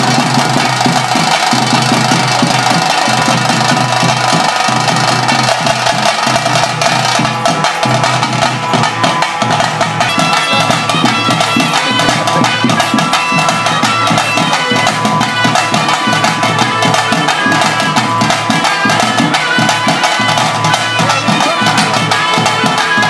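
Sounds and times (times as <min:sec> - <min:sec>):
clacking percussion: 0:00.0 - 0:23.0
fast drumming: 0:00.0 - 0:23.0
flute melody: 0:00.0 - 0:23.0.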